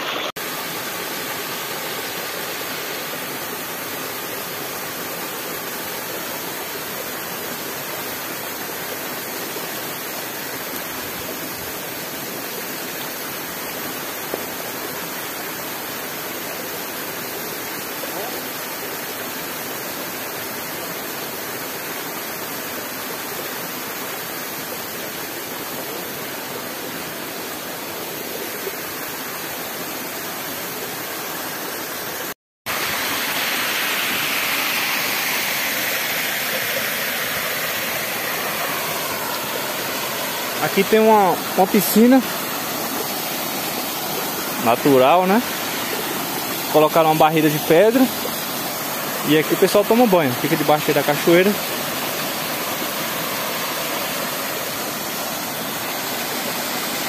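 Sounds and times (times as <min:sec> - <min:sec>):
water rushing over waterfall: 0:00.0 - 0:57.0.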